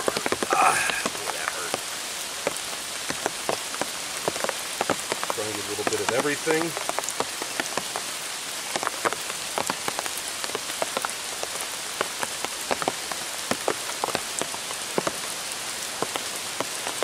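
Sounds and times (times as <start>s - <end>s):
rain falling: 0.0s - 17.0s
raindrop hits: 0.0s - 17.0s.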